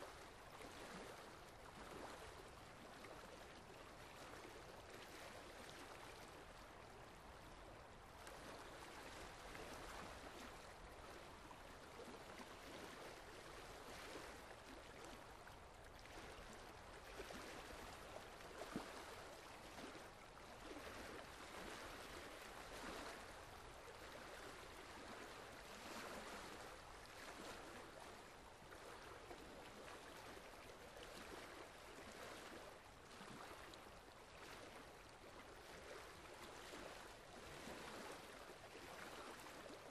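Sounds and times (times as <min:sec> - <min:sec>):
soft drip-like ticks: 0:00.0 - 0:39.9
trickling water: 0:00.0 - 0:39.9.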